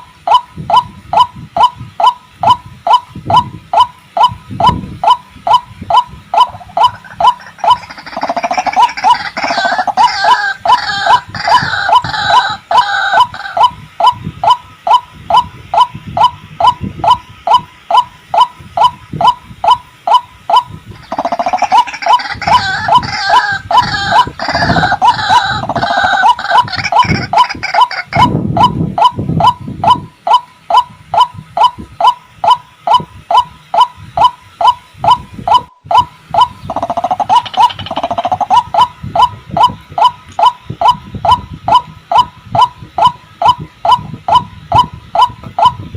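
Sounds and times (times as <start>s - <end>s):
overlapping bird calls: 0.0s - 45.9s
waterhen repeated calling: 0.0s - 45.9s.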